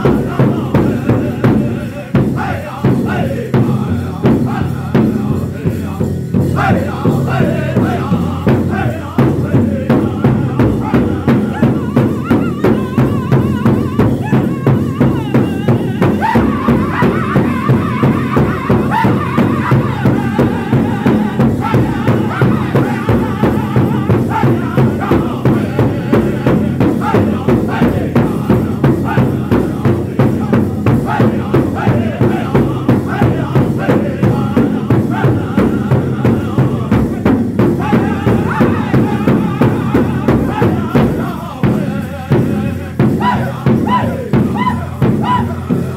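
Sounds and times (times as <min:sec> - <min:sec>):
large hide drum steady beat: 0:00.0 - 0:45.9
men singing together: 0:00.0 - 0:45.9.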